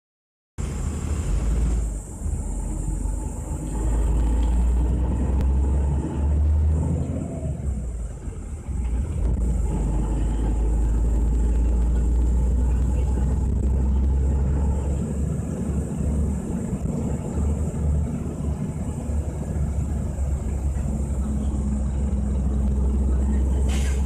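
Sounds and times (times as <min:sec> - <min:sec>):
vehicle engine and road rumble: 0:00.6 - 0:24.0.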